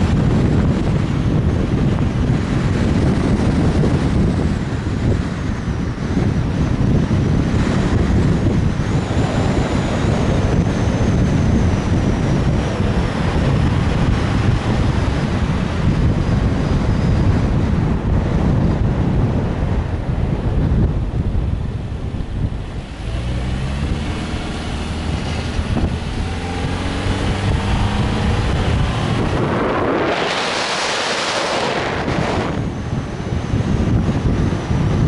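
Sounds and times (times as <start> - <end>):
car road and tyre noise: 0.0 - 35.0
wind rumble on camera: 0.0 - 35.0.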